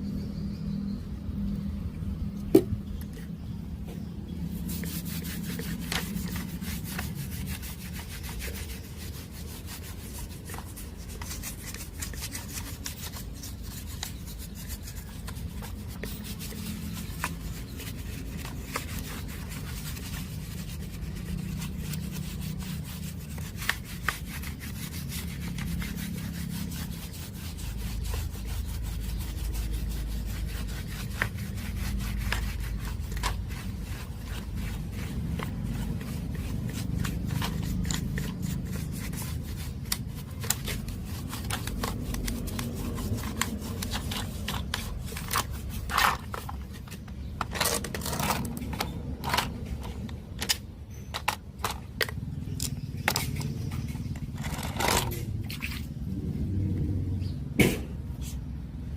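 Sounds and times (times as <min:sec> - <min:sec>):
rubbing and scraping: 0:02.5 - 0:56.5.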